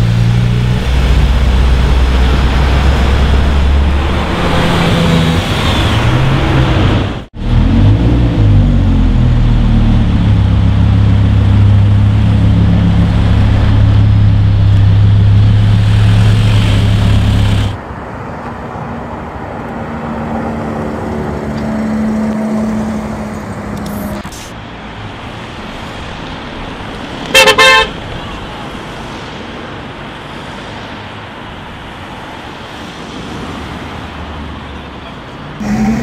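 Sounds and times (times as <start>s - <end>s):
cars going by: 0.0s - 36.0s
city street traffic: 0.0s - 36.0s.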